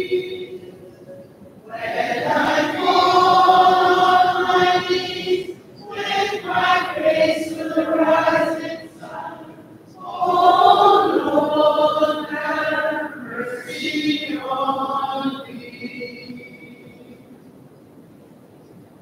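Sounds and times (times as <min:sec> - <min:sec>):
group singing a slow hymn: 0:00.0 - 0:01.0, 0:01.6 - 0:17.2.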